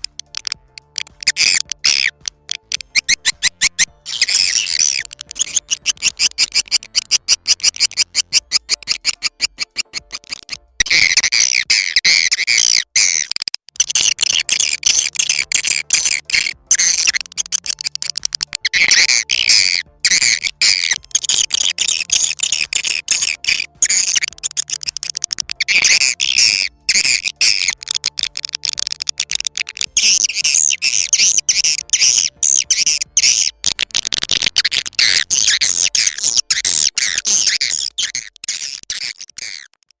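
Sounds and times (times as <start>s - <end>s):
swiftlets twittering: 0.0s - 39.8s.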